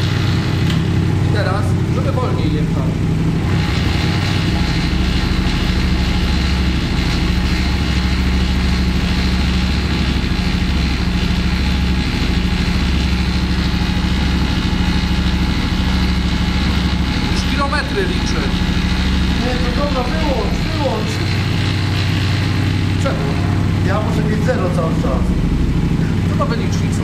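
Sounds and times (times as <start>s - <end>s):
quad bike engine idling: 0.0s - 27.0s.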